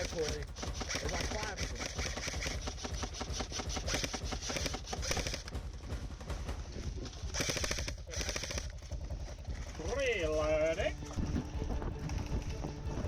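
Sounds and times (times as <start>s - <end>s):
airsoft guns firing full auto: 0.0s - 10.6s.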